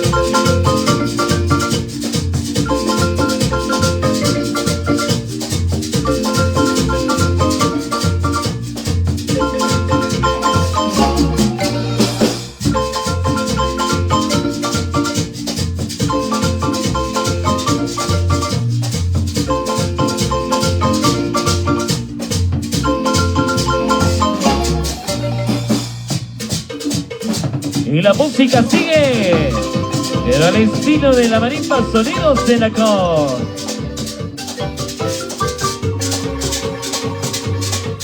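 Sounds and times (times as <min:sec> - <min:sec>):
bass beat: 0:00.0 - 0:26.5, 0:27.8 - 0:38.0
marimba ensemble dance music: 0:00.0 - 0:38.0
rattle percussion: 0:00.0 - 0:38.0.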